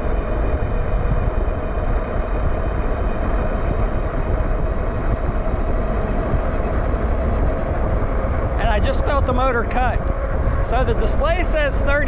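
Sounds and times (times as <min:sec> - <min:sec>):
faint steady whine: 0:00.0 - 0:12.0
wind rushing over microphone: 0:00.0 - 0:12.0.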